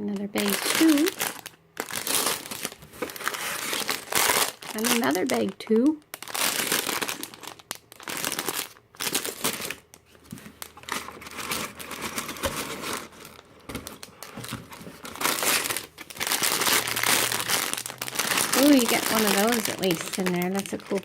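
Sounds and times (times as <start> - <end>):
plastic bags crinkling: 0.2 - 21.0.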